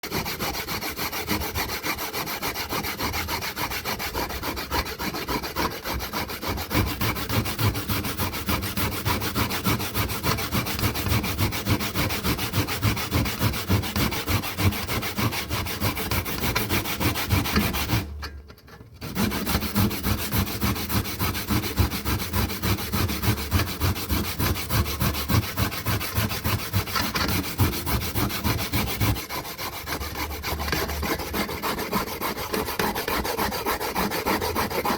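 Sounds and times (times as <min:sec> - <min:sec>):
abrasive tool scraping: 0:00.0 - 0:34.9.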